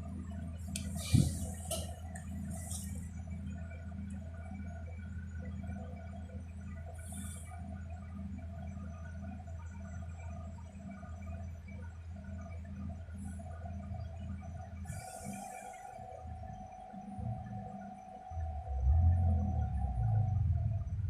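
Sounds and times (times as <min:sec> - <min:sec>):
electric bus drive hum: 0:00.0 - 0:21.0
faint steady whines: 0:00.0 - 0:21.0.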